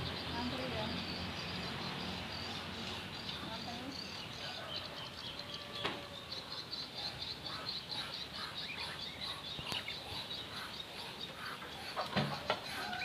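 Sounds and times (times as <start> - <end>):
chickens chirping and clucking: 0.0 - 13.0.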